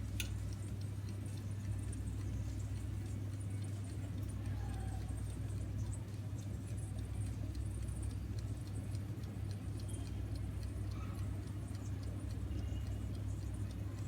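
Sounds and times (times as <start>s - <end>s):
electric oven humming: 0.0s - 14.0s
faint light ticking: 0.0s - 14.0s.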